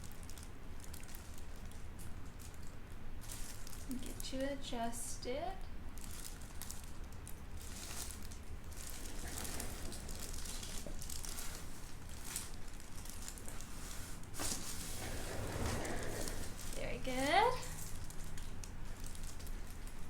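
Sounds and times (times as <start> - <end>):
rustling and handling sounds: 0.0 - 20.0.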